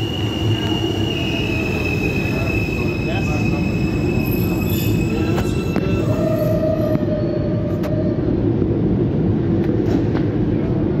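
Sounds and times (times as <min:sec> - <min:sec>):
rumble of wheels on rail: 0:00.0 - 0:11.0
subway train braking: 0:00.0 - 0:11.0.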